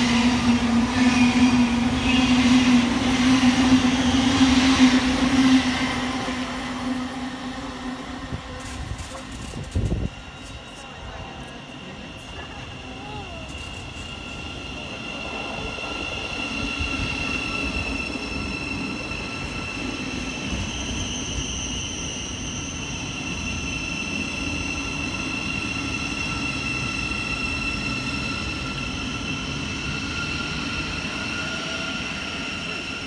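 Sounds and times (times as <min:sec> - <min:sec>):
train high whine: 0:00.0 - 0:33.0
train wheels rumbling on rail: 0:00.0 - 0:33.0.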